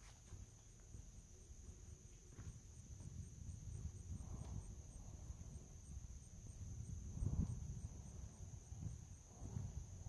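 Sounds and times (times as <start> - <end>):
insect trill and chirps: 0.0 - 10.0.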